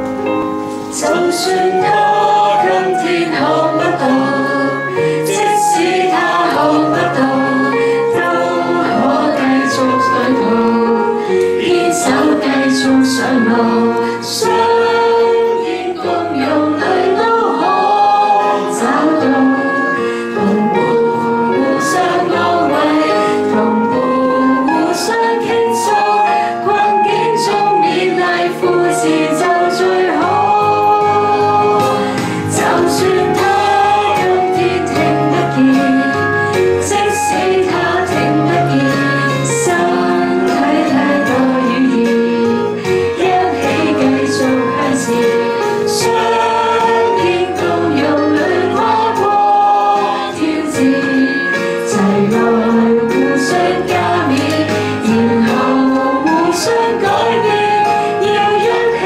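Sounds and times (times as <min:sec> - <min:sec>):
instrumental accompaniment: 0:00.0 - 0:59.0
group of people singing: 0:00.3 - 0:59.0
woman singing into microphone: 0:00.8 - 0:59.0.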